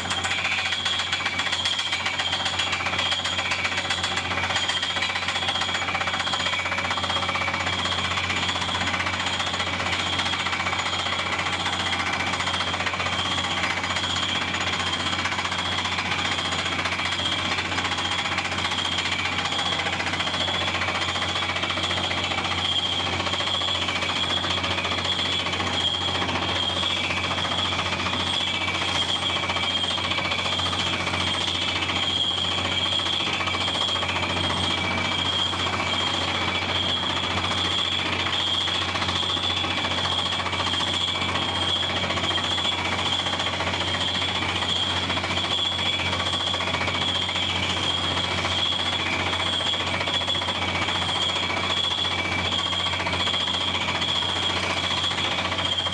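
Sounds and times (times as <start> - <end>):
pneumatic drill hammering: 0.0 - 55.9
rig and compressor engines: 0.0 - 55.9
steady high whistle: 0.0 - 55.9.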